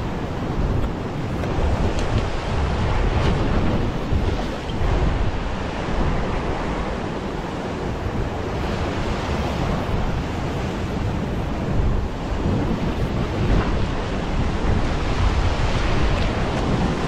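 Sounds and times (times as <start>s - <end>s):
ocean surf breaking on rocks: 0.0s - 17.0s
wind buffeting microphone: 0.0s - 17.0s.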